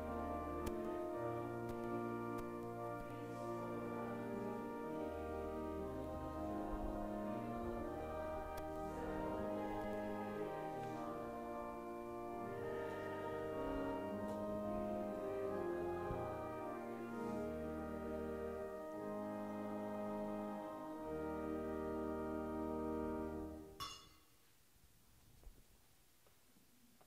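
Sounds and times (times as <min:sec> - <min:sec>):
slow organ-like instrumental music: 0:00.0 - 0:23.9.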